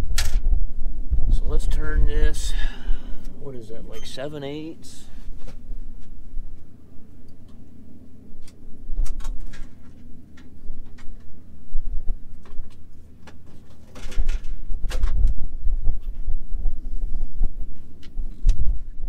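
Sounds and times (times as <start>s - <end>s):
wind buffeting microphone: 0.0s - 4.0s, 4.7s - 13.1s, 14.0s - 19.0s.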